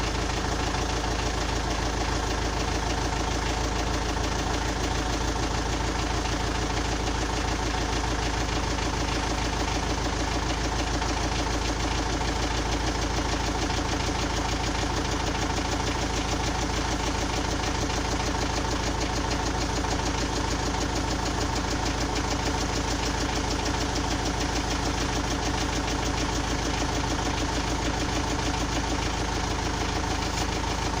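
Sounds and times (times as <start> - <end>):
engine idling: 0.0 - 31.0
knocking inside engine: 0.1 - 31.0.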